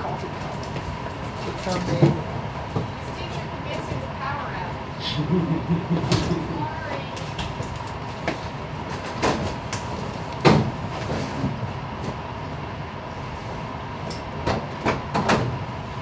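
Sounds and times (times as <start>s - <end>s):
faint constant hum: 0.0s - 16.0s.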